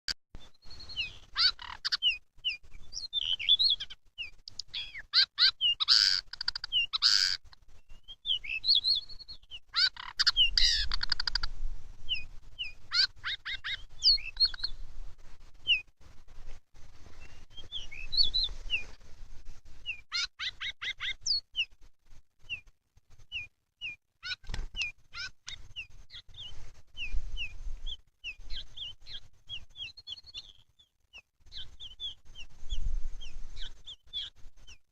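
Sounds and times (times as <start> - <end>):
bird chirps and trills: 0.4 - 14.8, 17.2 - 18.9, 19.8 - 21.8, 23.3 - 34.9.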